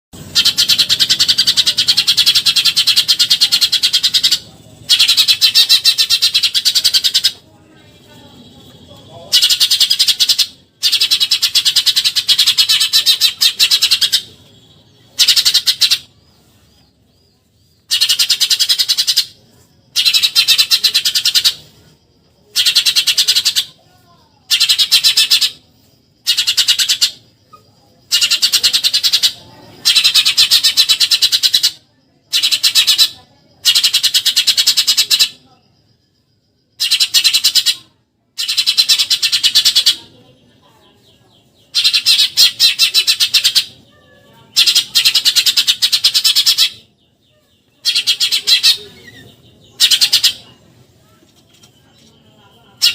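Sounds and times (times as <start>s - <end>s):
sparrow chattering calls: 0.2s - 52.9s.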